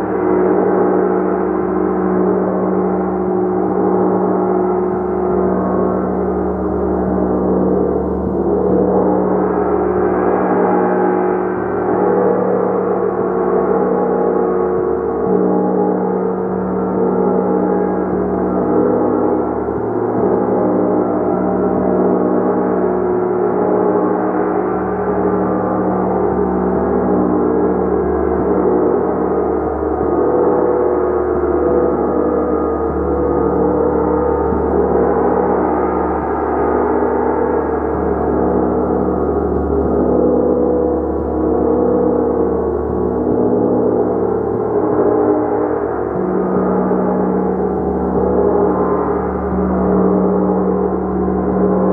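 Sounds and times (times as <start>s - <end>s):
large gong resonating: 0.0s - 51.9s.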